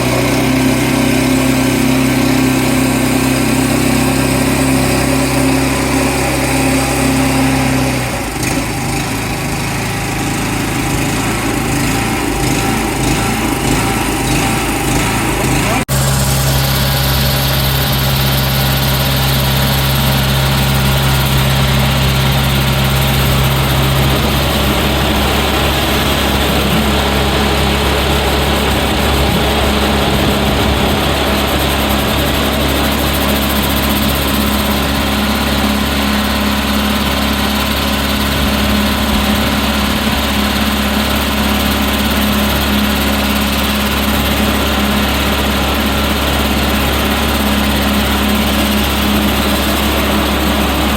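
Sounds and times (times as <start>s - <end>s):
engine humming: 0.0s - 50.9s.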